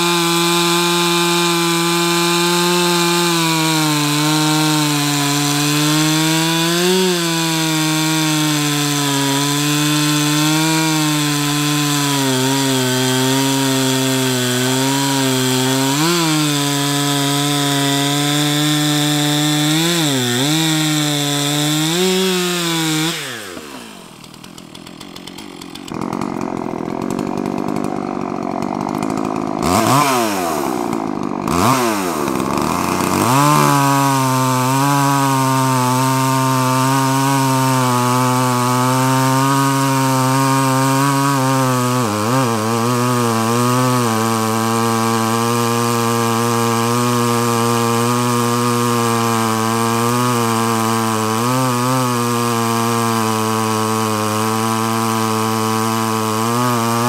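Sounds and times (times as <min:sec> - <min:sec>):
chainsaw cutting log: 0:00.0 - 0:57.0
chainsaw revving roughly: 0:00.0 - 0:57.0.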